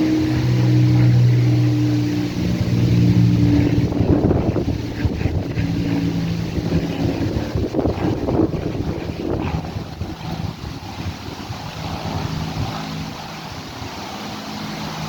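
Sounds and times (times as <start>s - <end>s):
low engine drone: 0.0s - 15.0s
wind buffeting microphone: 0.0s - 15.0s.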